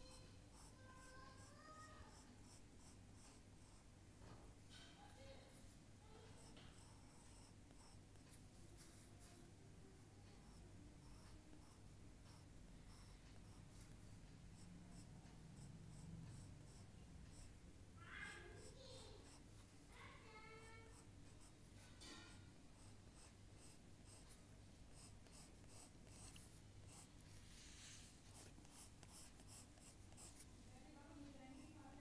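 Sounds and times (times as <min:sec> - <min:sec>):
drawing tool scratching on paper: 0:00.0 - 0:03.9, 0:05.5 - 0:09.4, 0:10.3 - 0:17.6, 0:18.3 - 0:19.7, 0:20.5 - 0:30.5, 0:31.1 - 0:32.0.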